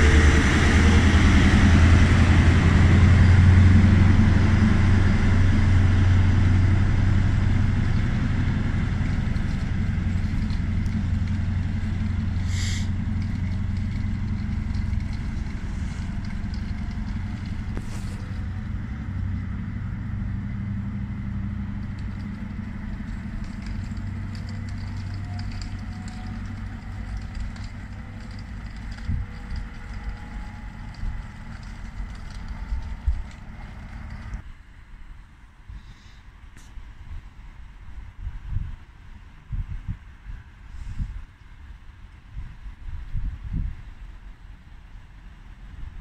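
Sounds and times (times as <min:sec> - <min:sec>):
diesel train engine drone: 0:00.0 - 0:46.0.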